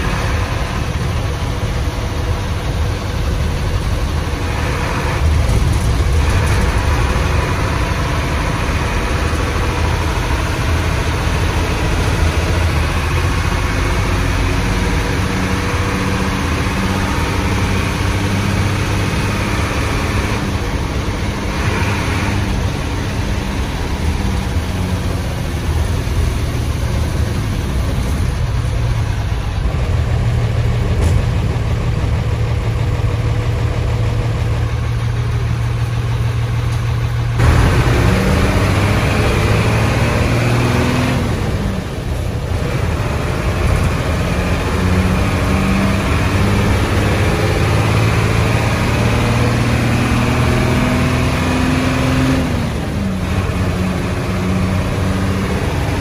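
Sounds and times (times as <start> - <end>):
bus diesel engine growling: 0.0 - 56.0.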